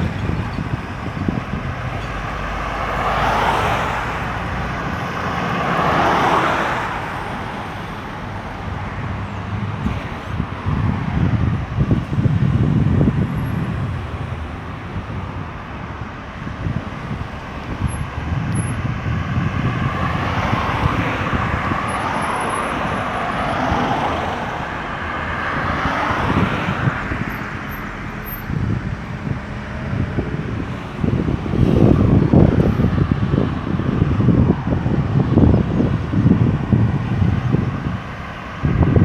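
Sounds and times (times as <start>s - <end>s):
highway traffic rumble: 0.0s - 39.0s.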